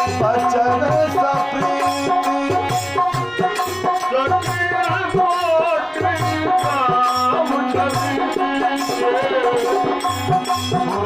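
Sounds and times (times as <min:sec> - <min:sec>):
tabla beat: 0:00.0 - 0:11.0.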